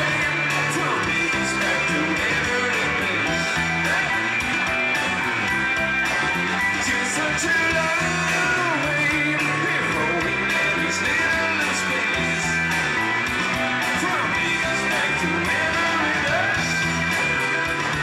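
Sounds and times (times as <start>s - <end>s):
electric guitar: 0.0s - 18.0s
rock band playing live: 0.0s - 18.0s.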